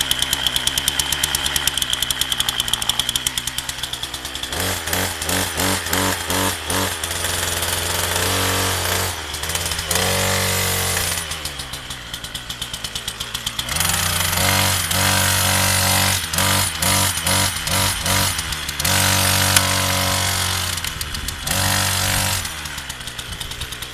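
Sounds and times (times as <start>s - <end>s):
chainsaw engine revving and idling: 0.0s - 23.9s.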